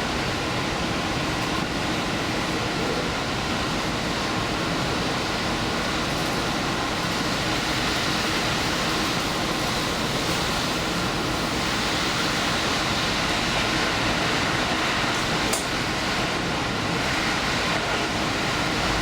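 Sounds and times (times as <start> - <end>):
train running at speed: 0.0 - 19.0.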